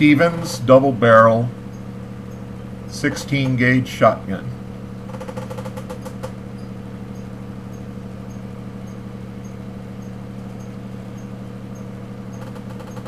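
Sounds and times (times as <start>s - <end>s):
room tone hum: 0.0s - 13.0s.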